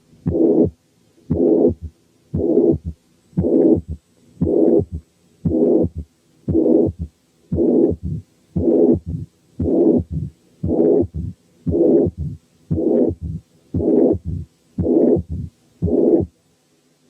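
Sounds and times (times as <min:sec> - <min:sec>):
heartbeat with murmur: 0:00.2 - 0:16.3
short sharp heart sounds: 0:00.3 - 0:16.3.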